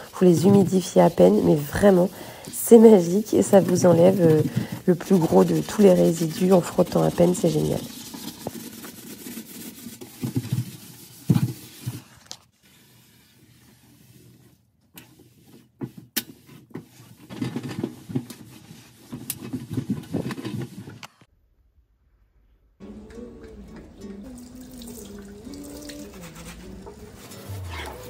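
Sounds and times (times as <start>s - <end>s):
cloth wiping oven floor: 0.0s - 21.0s, 25.4s - 28.0s.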